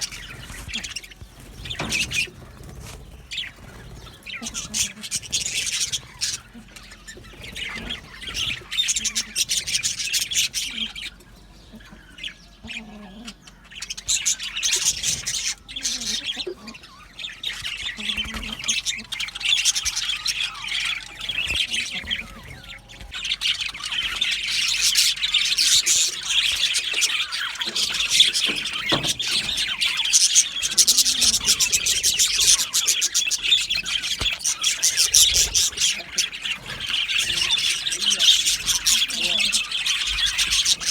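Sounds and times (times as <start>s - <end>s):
flock of budgerigars chattering: 0.0s - 40.9s.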